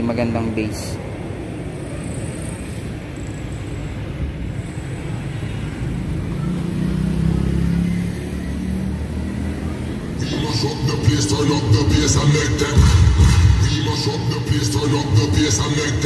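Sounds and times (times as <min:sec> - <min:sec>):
traffic rumble: 0:00.0 - 0:16.0
vehicle engine passing: 0:01.4 - 0:16.0.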